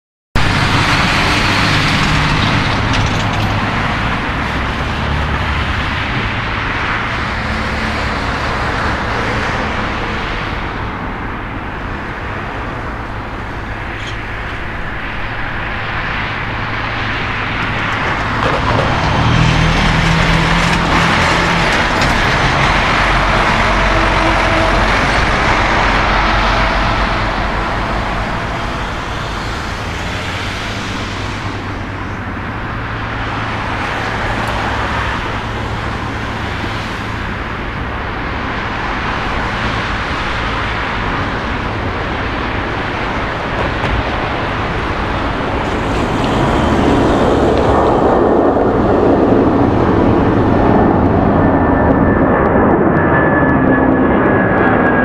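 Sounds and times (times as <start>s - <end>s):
jet engines roaring: 0.4s - 55.0s.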